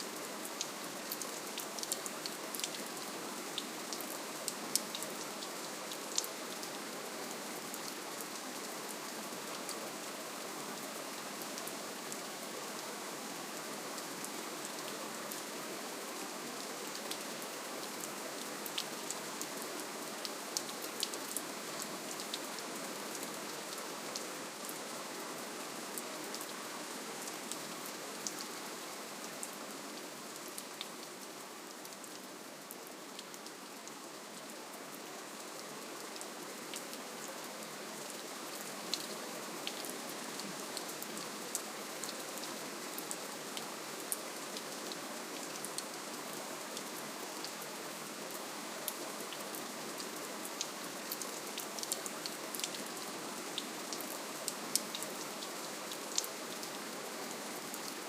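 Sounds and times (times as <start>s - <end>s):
soft steady rain: 0.0s - 58.0s.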